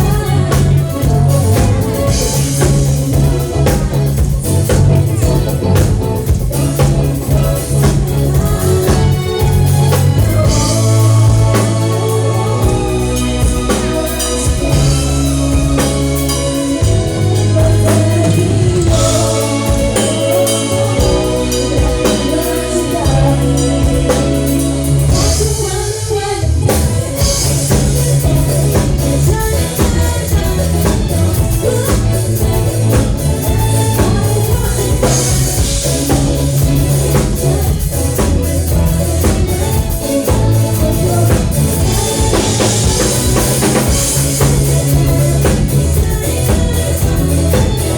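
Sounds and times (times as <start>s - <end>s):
live band playing: 0.0s - 47.9s
person singing: 0.0s - 47.9s.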